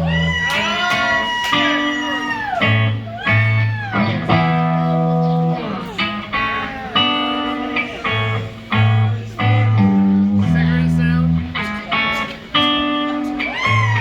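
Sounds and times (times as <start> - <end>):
bluesy electric guitar licks: 0.0 - 14.0
held bass notes: 0.0 - 14.0.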